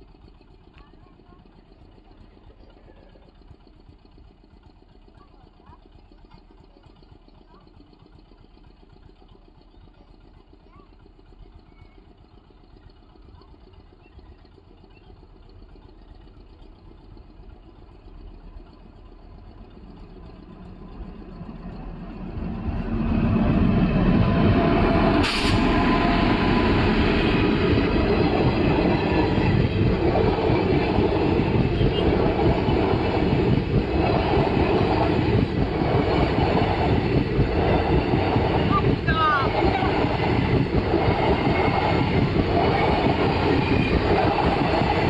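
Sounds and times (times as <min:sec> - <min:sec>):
passenger train wheels on rails: 0:00.0 - 0:45.0.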